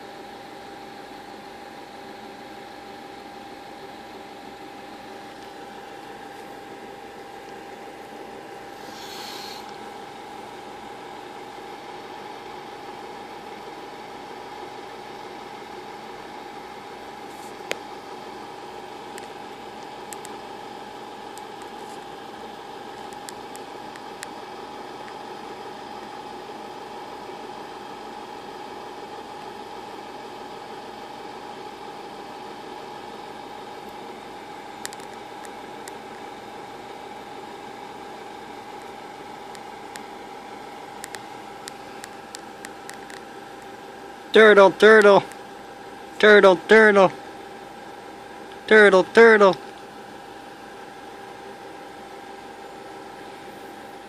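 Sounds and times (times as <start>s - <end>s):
machine hum with hiss: 0.0s - 54.0s.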